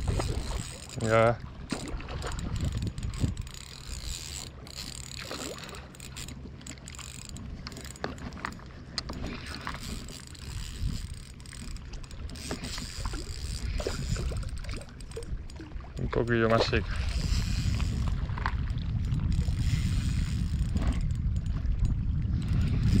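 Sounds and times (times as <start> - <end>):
fishing reel winding: 0.0 - 23.0
water noise: 0.0 - 23.0.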